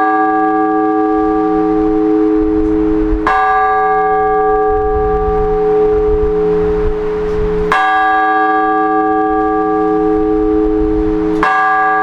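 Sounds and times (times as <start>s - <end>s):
church bell ringing: 0.0s - 12.0s
low rumble: 1.0s - 8.2s, 8.9s - 11.4s.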